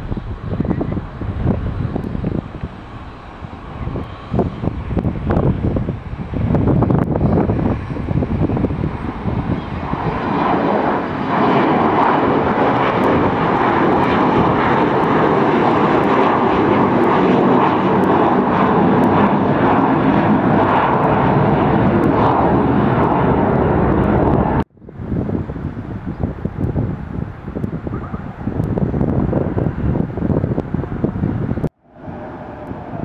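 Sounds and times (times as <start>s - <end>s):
aircraft engines running loud: 0.0s - 33.0s
wind noise on microphone: 0.0s - 33.0s.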